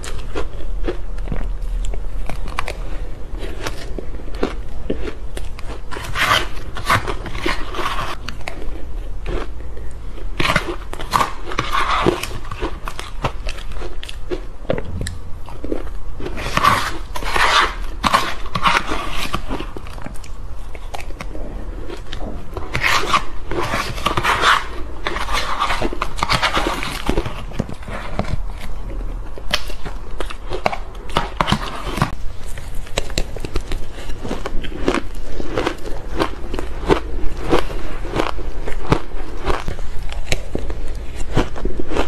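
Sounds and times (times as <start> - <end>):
chewing ice crunching: 0.0 - 42.0.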